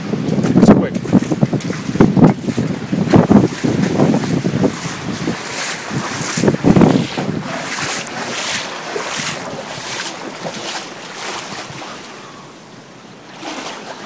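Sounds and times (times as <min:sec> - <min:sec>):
wind gusting on microphone: 0:00.0 - 0:12.8
floodwater rushing: 0:00.0 - 0:14.0.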